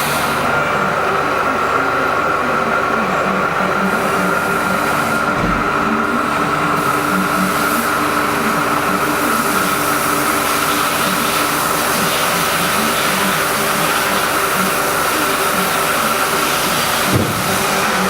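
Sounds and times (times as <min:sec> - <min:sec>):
machining centre hum and whine: 0:00.0 - 0:18.0.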